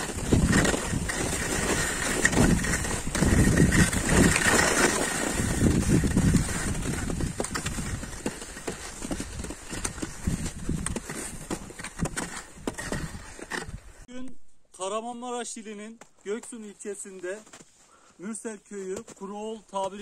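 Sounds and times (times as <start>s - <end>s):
skis crunching and scraping on snow: 0.0s - 14.1s, 15.8s - 20.0s.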